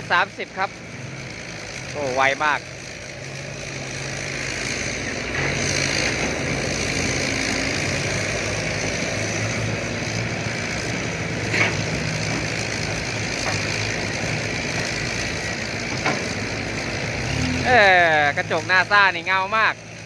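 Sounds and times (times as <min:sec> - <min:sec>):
diesel truck engine droning: 0:00.0 - 0:20.0.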